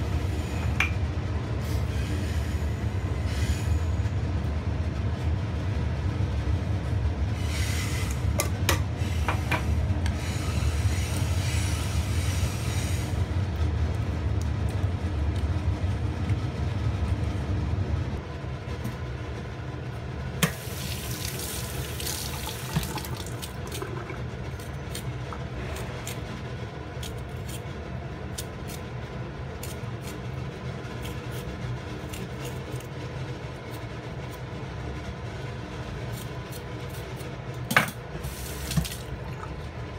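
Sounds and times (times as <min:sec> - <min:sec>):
low steady rumble: 0:03.8 - 0:39.9.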